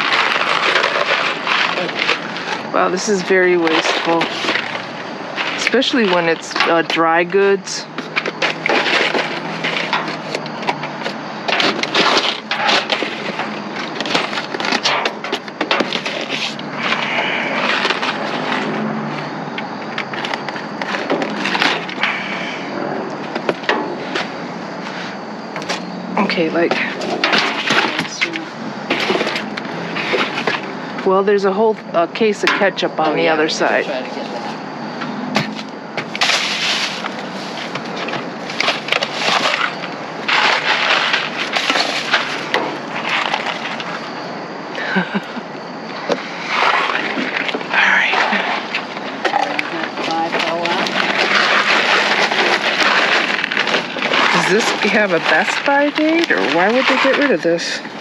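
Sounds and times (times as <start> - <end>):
trash rustling and crinkling: 0.0 - 58.0.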